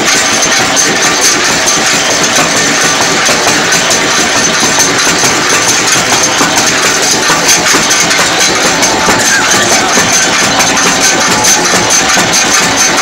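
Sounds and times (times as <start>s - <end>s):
machine mixer churning: 0.0s - 13.0s.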